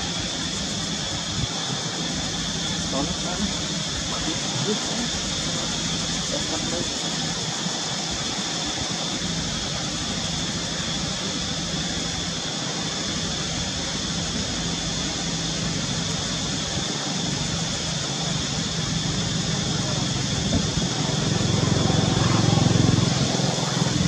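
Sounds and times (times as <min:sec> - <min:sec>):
high hiss-like whine: 0:00.0 - 0:24.0.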